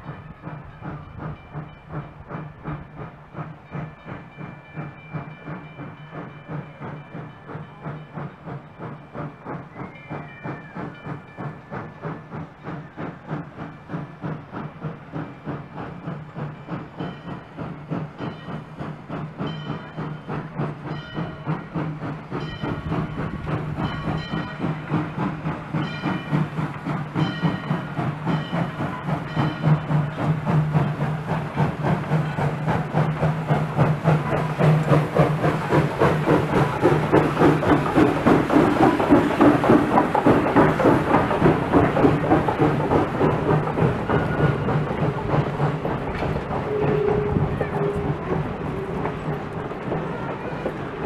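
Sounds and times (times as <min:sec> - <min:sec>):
steam locomotive chuffing: 0:00.0 - 0:51.0.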